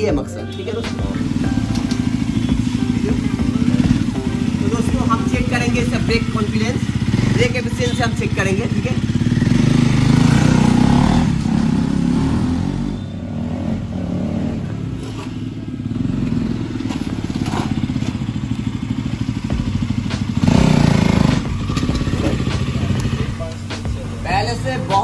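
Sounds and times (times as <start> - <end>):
motorcycle engine riding: 0.0 - 25.0.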